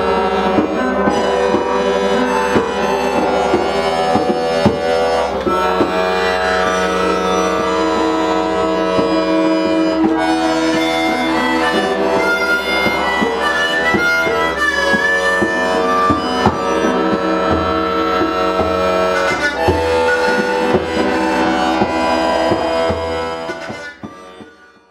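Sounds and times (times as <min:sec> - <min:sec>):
squeezebox playing a melody: 0:00.0 - 0:24.9.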